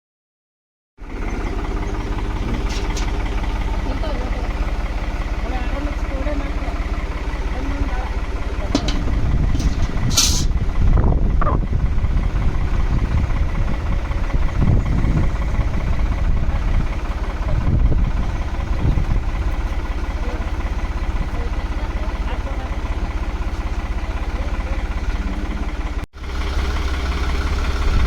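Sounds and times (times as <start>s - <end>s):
engine idling: 1.0s - 28.0s.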